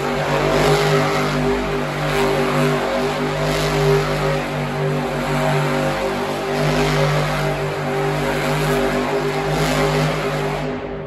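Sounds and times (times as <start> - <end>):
monster truck engine roaring: 0.0 - 11.0.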